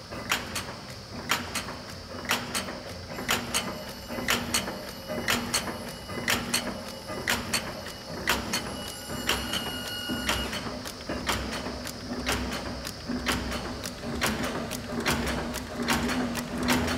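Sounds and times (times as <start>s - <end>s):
machine mechanism clacking: 0.0s - 16.9s.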